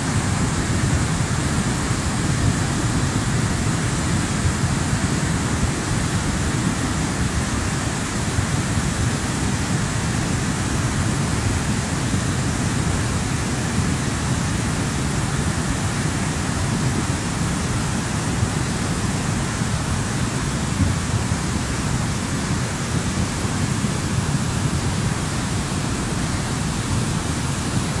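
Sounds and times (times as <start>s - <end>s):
water rushing over boulders: 0.0s - 28.0s.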